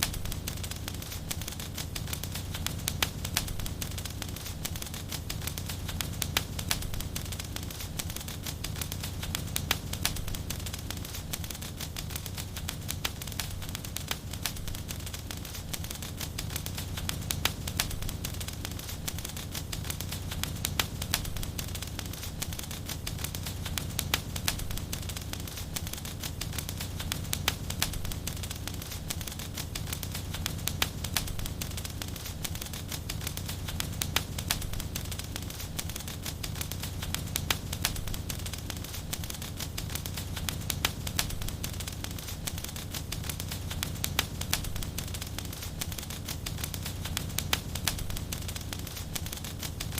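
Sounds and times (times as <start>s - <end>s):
fireplace fire crackling: 0.0s - 49.9s.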